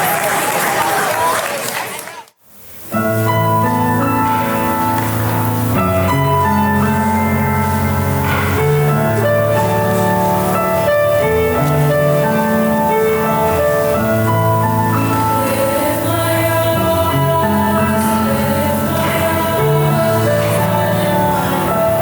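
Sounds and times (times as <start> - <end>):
student ensemble playing chords: 2.8 - 22.0.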